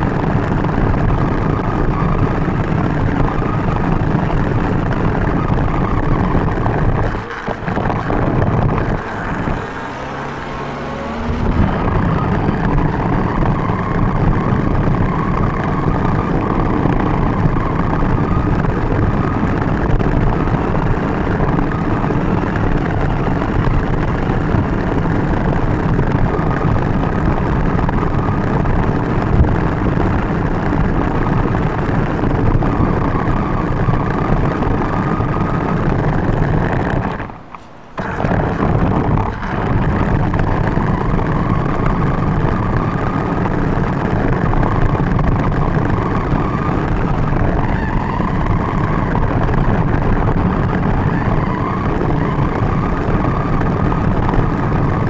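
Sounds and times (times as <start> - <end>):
tyres rumbling on asphalt: 0.0 - 55.0.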